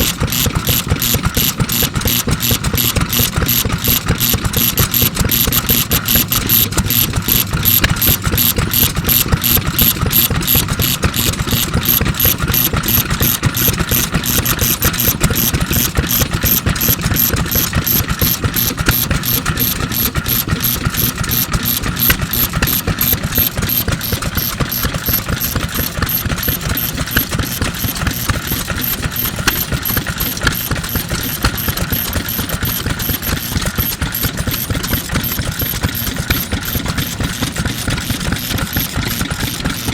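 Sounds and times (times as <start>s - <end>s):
stationary engine clattering: 0.0s - 39.9s.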